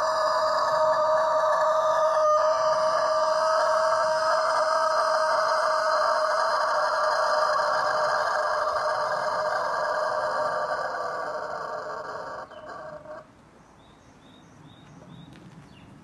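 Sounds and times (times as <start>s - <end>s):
rooster crowing: 0.0s - 13.2s.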